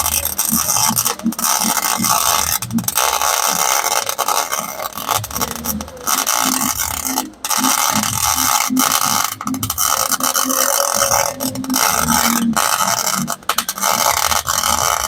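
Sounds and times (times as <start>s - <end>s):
welder arc crackling: 0.0s - 15.0s.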